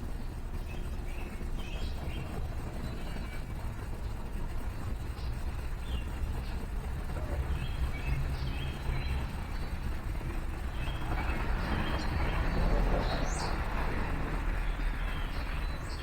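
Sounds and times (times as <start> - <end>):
low traffic rumble: 0.0 - 16.0
small birds chirping: 0.1 - 16.0.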